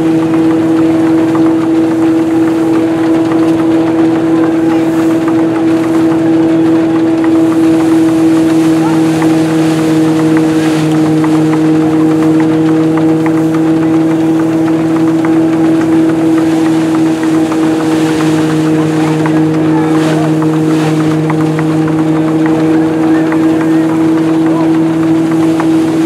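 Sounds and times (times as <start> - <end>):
threshing machine droning: 0.0 - 26.0.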